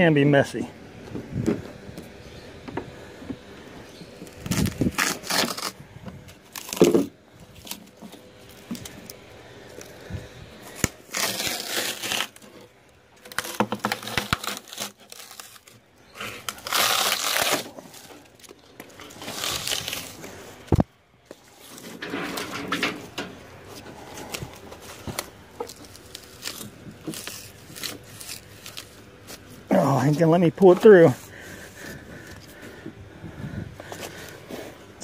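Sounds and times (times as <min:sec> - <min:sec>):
foam insulation crunching and tearing: 0:04.2 - 0:32.8.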